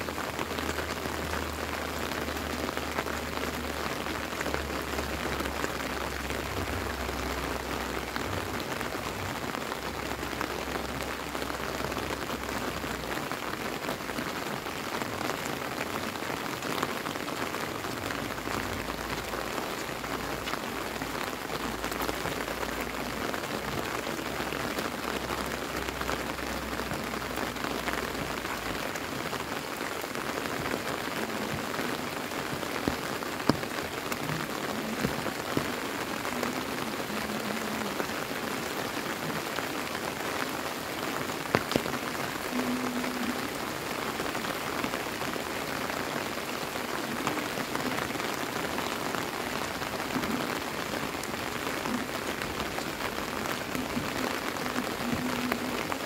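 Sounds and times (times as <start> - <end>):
rain on wet road: 0.0 - 56.0.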